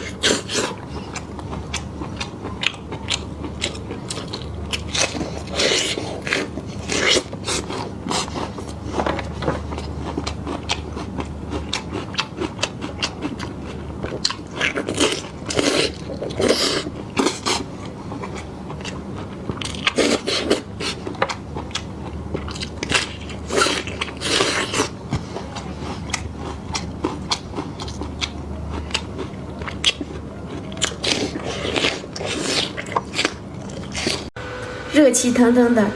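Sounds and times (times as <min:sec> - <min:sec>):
chewing and crunching: 0:00.0 - 0:34.4.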